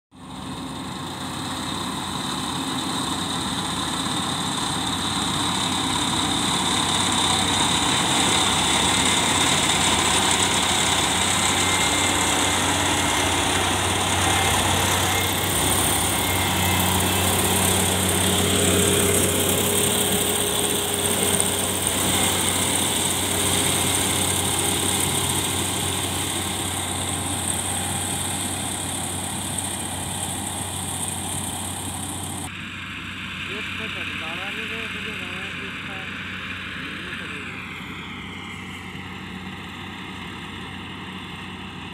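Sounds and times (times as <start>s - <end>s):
combine harvester droning: 0.1s - 41.9s.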